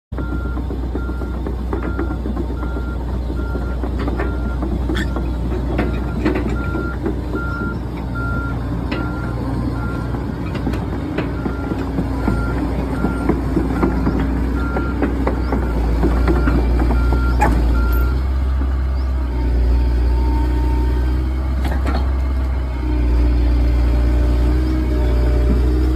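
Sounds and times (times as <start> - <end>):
low engine rumble: 0.1 - 25.9.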